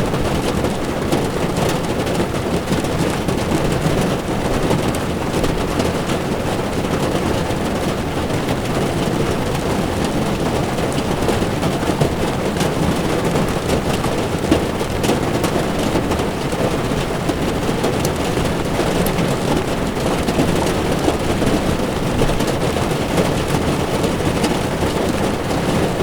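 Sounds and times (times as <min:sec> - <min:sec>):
rain drumming on car: 0:00.0 - 0:26.0
tyres rushing on wet road: 0:00.0 - 0:26.0.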